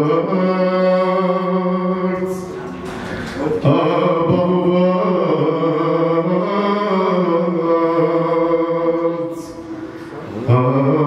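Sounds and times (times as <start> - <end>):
man singing into a microphone: 0.0 - 2.6, 3.4 - 11.0.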